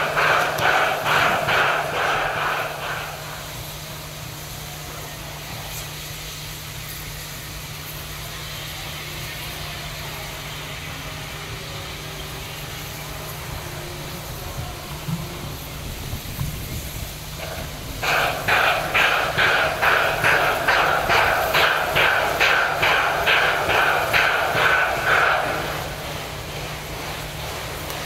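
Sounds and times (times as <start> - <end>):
locomotive exhaust beats: 0.0 - 28.0
sharp locomotive chuffs: 0.0 - 28.0
steam locomotive rumble and hiss: 0.0 - 28.0.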